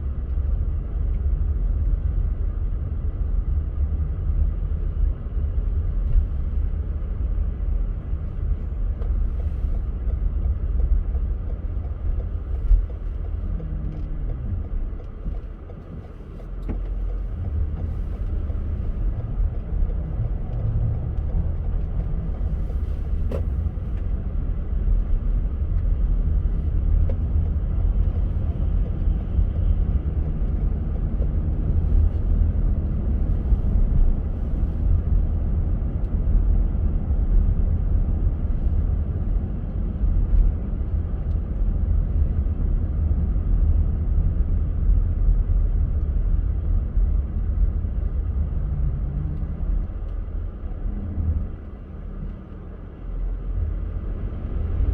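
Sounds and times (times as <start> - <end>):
car engine: 0.0 - 54.9
tyres rumbling on snowy road: 0.0 - 54.9.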